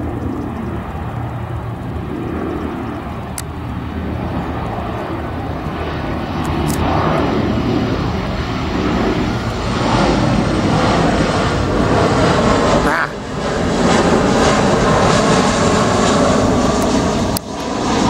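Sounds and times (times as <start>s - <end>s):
airliner engines droning: 0.0s - 18.0s.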